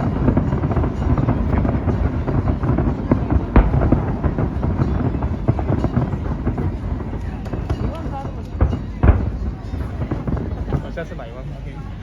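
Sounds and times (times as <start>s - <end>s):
firework bang: 0.0s - 11.5s
fireworks crackling pops: 0.0s - 11.7s.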